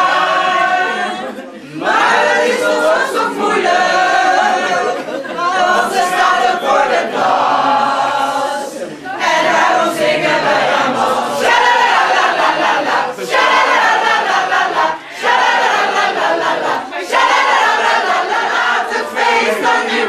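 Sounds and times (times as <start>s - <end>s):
women singing in unison: 0.0s - 20.0s.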